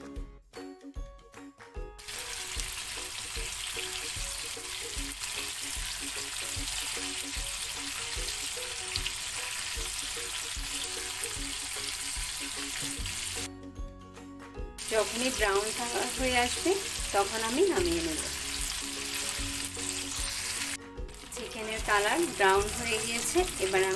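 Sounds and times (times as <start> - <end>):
chicken sizzling in hot oil: 2.0 - 13.5, 14.8 - 23.9.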